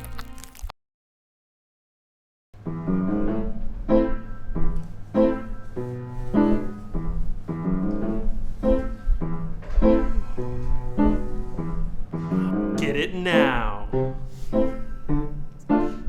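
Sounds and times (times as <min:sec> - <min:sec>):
piano chords: 0:02.6 - 0:16.0.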